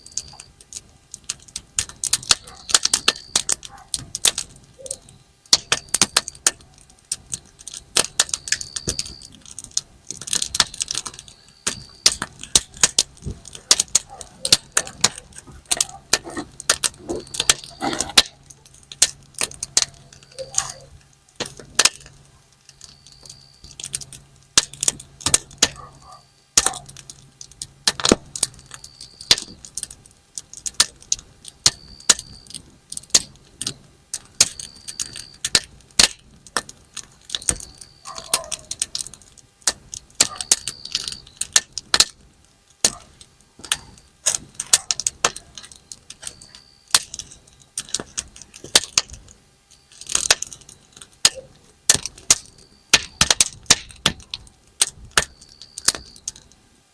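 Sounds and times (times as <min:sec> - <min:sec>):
campfire crackling: 0:00.0 - 0:56.9
sharp popping from fire: 0:00.0 - 0:56.9.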